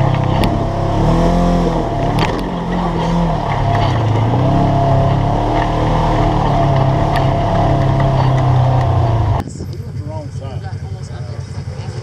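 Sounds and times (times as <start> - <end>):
engine working under load: 0.0 - 12.0.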